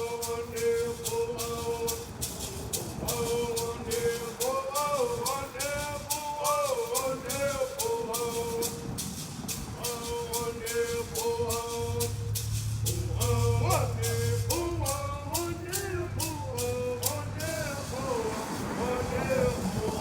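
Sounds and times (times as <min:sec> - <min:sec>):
person singing: 0:00.0 - 0:09.0, 0:09.8 - 0:20.0
low hum: 0:00.0 - 0:20.0
shaken rattle beat: 0:00.0 - 0:20.0.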